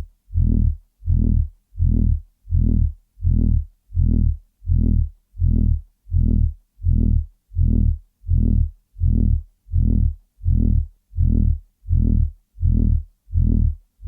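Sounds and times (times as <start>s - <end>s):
low-pitched pulsing throbbing tone: 0.0s - 13.8s.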